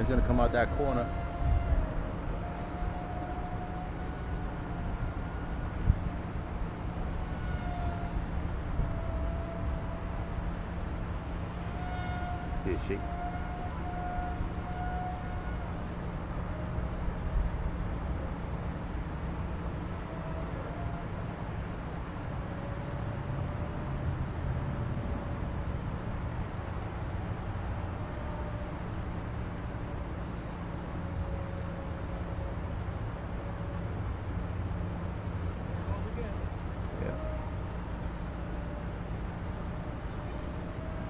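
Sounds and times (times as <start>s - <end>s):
model plane motor whine: 0.0s - 41.0s
wind buffeting microphone: 0.0s - 41.0s.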